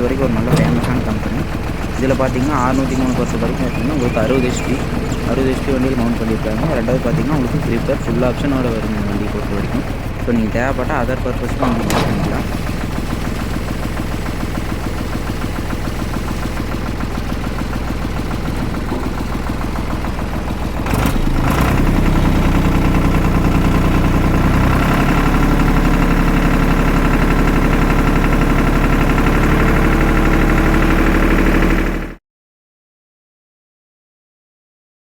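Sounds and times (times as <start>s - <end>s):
tractor diesel engine running: 0.0s - 32.2s.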